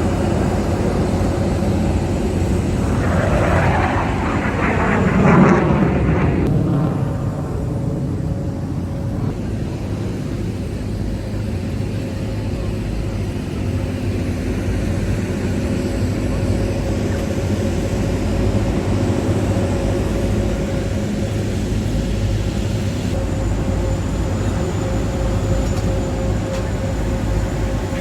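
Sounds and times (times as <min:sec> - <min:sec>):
aircraft engine rumble: 0:00.0 - 0:28.0.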